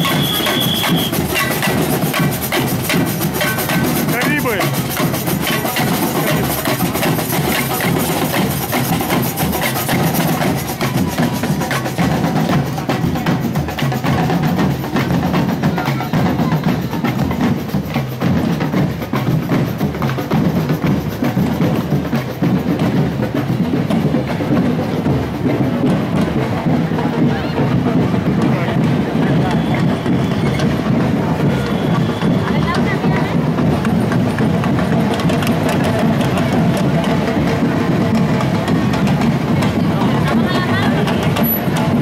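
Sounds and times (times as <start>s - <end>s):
hand percussion: 0.0s - 42.0s
marching snare and bass drums: 0.0s - 42.0s.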